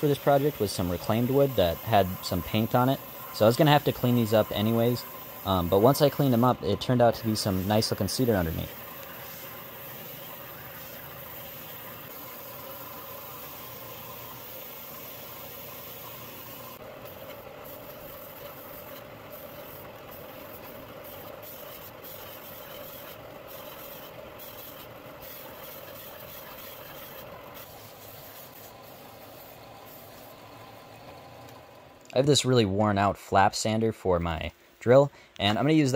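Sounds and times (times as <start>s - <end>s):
wood sanding hiss: 0.0s - 31.0s.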